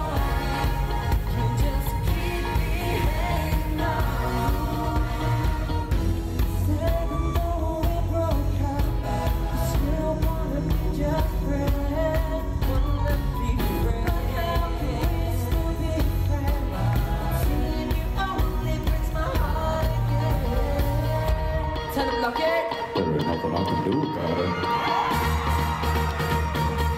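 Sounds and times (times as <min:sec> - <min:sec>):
male vocal group singing: 0:00.0 - 0:23.0
live pop band: 0:00.0 - 0:26.9.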